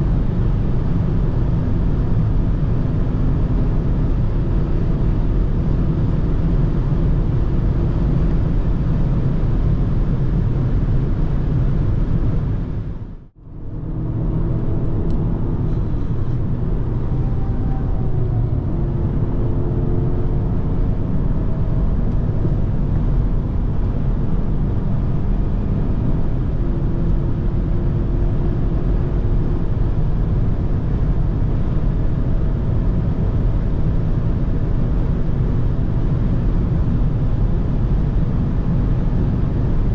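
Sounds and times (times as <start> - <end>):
car engine: 0.0 - 39.9
wind and tyre noise: 0.0 - 39.9.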